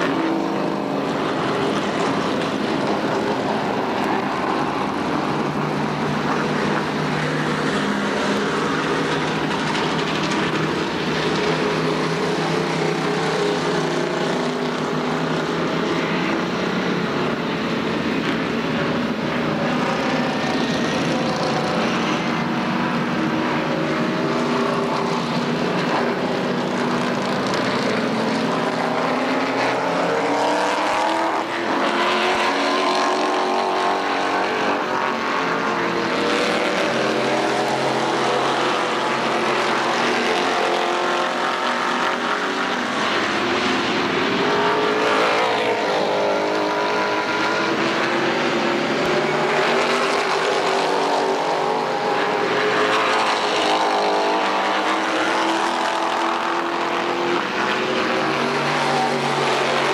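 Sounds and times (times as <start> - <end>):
race car engines lapping: 0.0 - 59.9.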